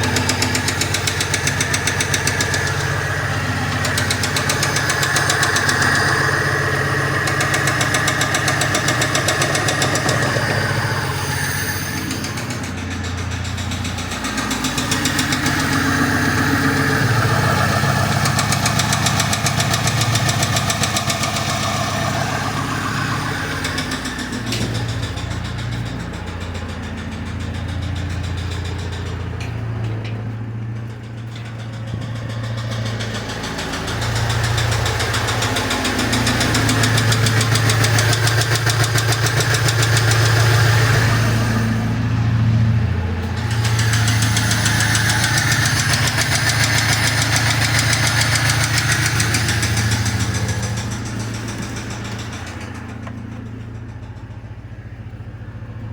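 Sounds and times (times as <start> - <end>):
car engine knocking: 0.0 - 55.9.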